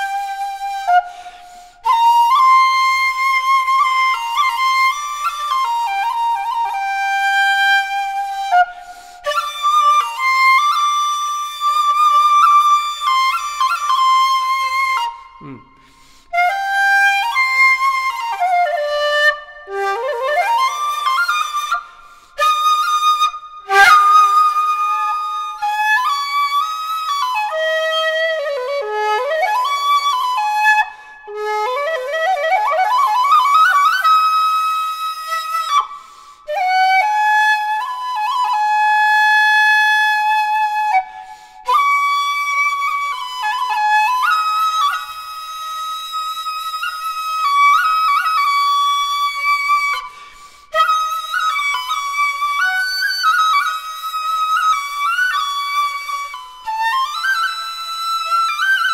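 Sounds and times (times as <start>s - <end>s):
bamboo flute melody: 0.0s - 58.9s.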